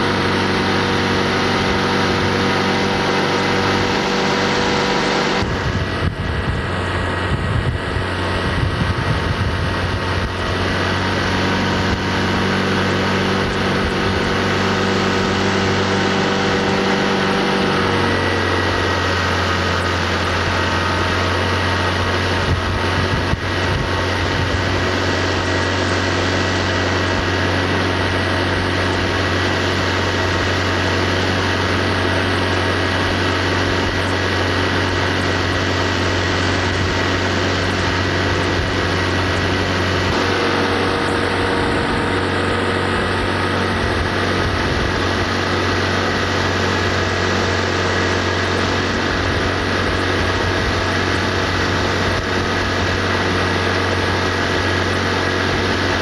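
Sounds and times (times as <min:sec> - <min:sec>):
outboard motorboat engine humming: 0:00.0 - 0:56.0.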